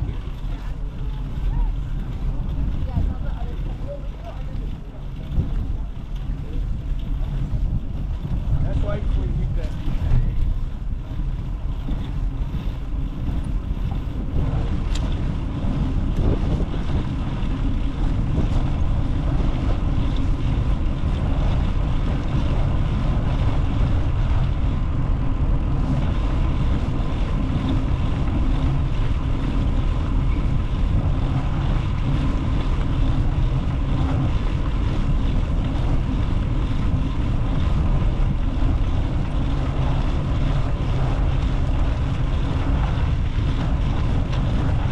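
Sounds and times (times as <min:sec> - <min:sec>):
wind rumbling on microphone: 0:00.0 - 0:44.9.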